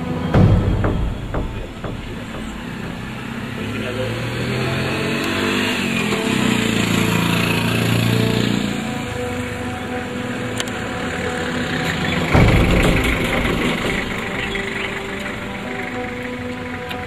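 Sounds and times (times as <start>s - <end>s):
low engine rumble: 0.0s - 5.0s, 5.6s - 17.0s.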